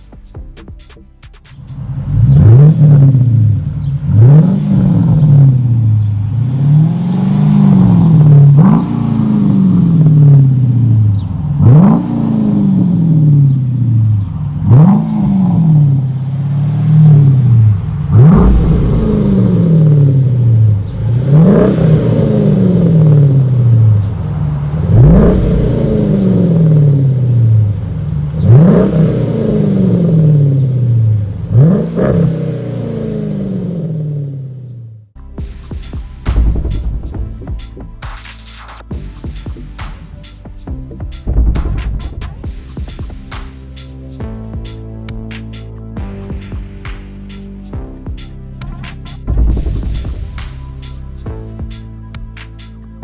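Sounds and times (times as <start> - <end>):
car engine revving: 1.5 - 52.9.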